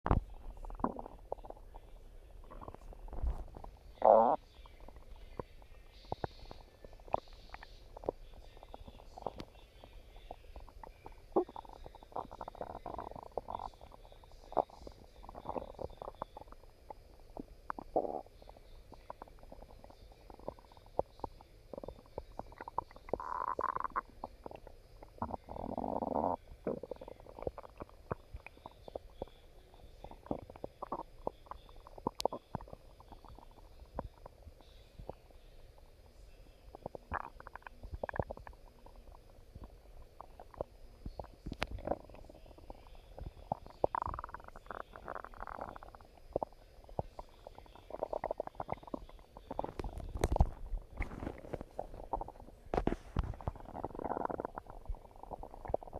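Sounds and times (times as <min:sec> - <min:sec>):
stomach growling: 0:00.1 - 0:55.9.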